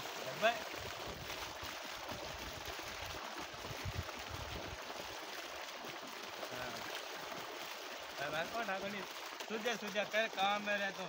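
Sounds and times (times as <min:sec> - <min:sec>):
water gushing from a pipe: 0:00.0 - 0:11.0.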